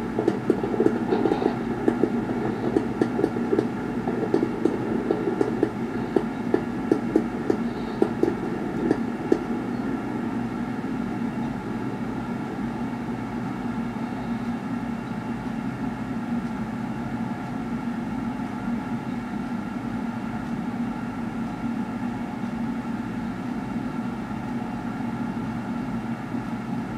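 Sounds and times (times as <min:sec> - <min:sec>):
steady hum and hiss: 0:00.0 - 0:26.9.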